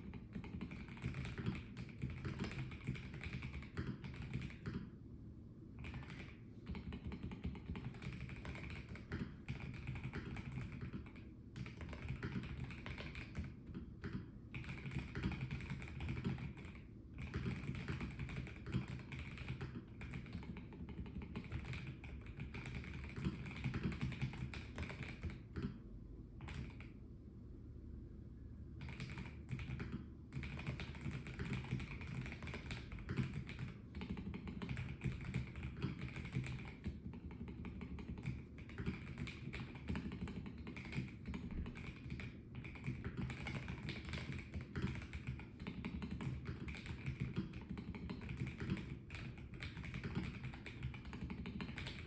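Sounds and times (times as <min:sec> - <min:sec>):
mechanical keyboard typing: 0:00.0 - 0:04.9, 0:05.8 - 0:25.8, 0:26.4 - 0:27.0, 0:28.8 - 0:52.0.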